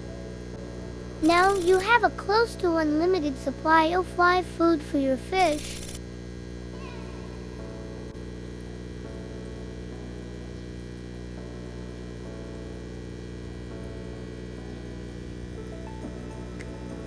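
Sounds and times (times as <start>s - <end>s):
low multi-pitched hum: 0.0s - 17.0s.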